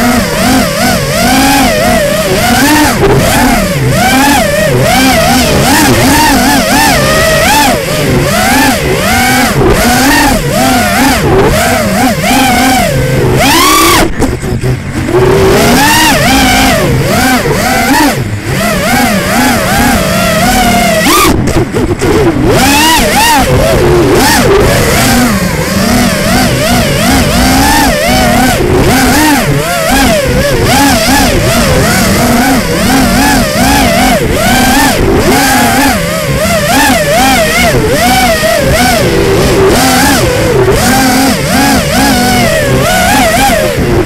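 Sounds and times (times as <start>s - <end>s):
drone motors and propellers whining: 0.0s - 44.0s.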